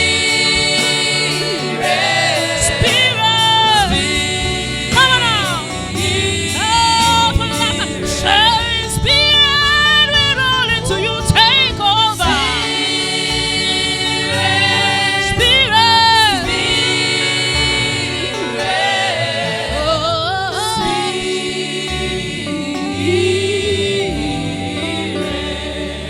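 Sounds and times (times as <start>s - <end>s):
gospel worship singing: 0.0s - 26.0s
steady musical backing: 0.0s - 26.0s.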